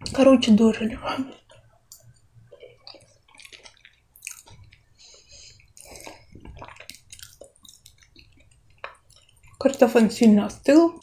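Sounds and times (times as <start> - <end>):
wet squishy chewing: 1.3 - 11.0.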